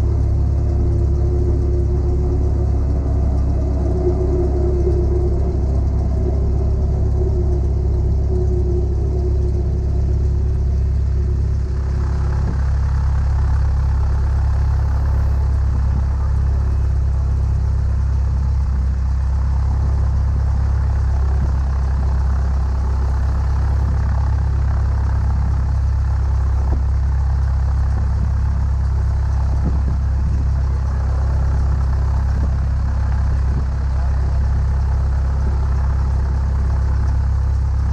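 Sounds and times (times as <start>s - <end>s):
airplane piston engine droning: 0.0s - 37.9s.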